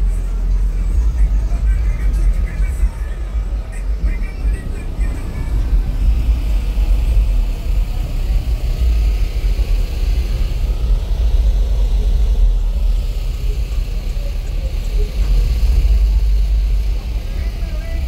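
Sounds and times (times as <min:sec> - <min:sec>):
loud subwoofer bass: 0:00.0 - 0:18.0.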